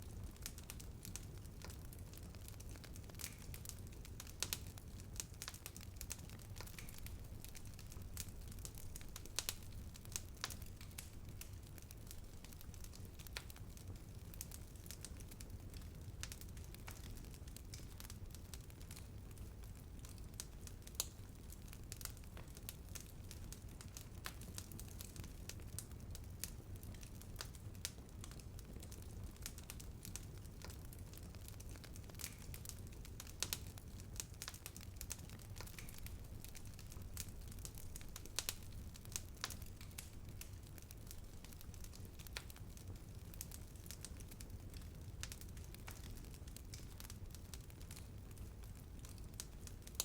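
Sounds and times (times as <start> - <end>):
low rumble of flames: 0.0 - 50.0
wood crackling and popping: 0.0 - 50.0.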